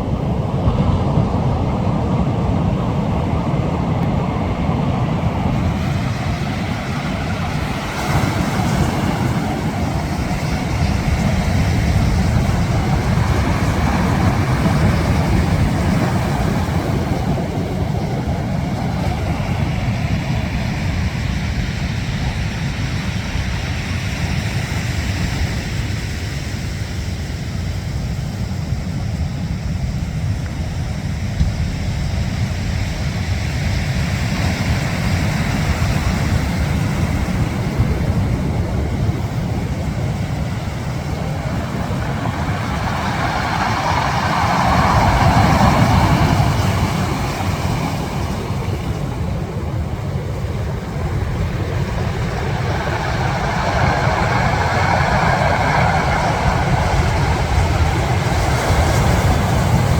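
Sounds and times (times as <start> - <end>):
sea: 0.0 - 59.9
wind: 0.0 - 59.9.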